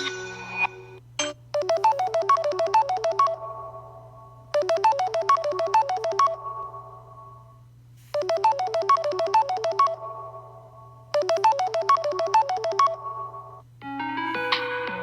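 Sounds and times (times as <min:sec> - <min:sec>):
phone ringtone melody: 0:01.6 - 0:07.4, 0:08.2 - 0:15.0.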